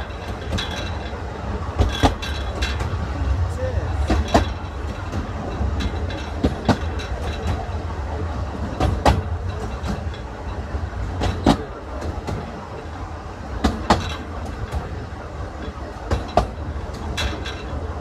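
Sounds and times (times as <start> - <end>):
train coach rumble: 0.0 - 18.0
wheels clicking over rail joints: 0.0 - 18.0.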